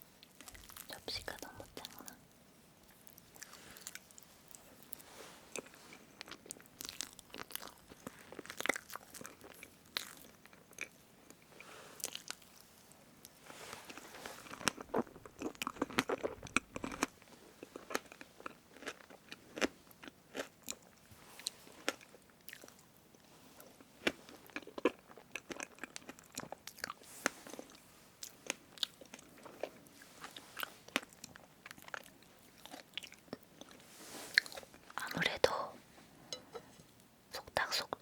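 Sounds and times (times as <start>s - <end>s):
chewing: 2.8s - 12.6s, 13.2s - 22.8s, 23.6s - 35.2s.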